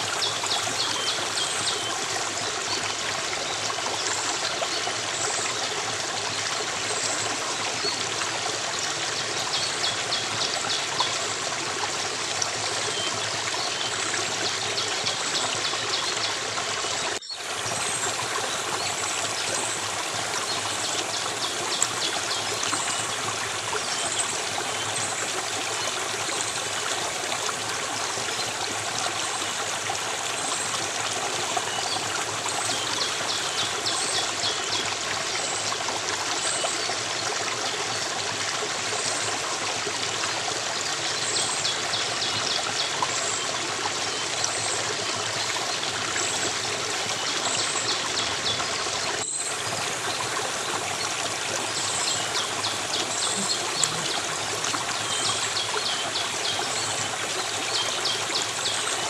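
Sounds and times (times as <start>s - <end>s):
trickling stream water: 0.0s - 59.0s.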